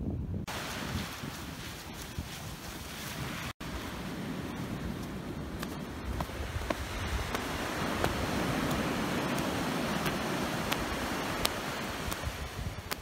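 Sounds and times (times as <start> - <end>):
wind on microphone: 0.0 - 13.0
surf rushing: 0.5 - 13.0.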